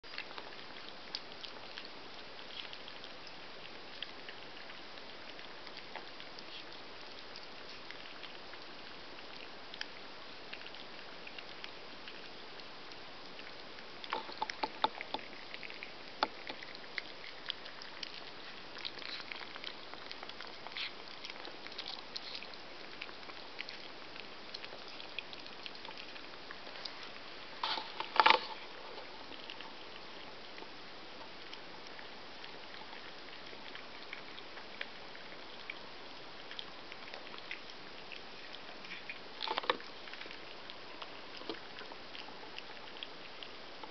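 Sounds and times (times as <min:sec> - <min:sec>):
puppies chewing and lapping: 0:00.0 - 0:43.9.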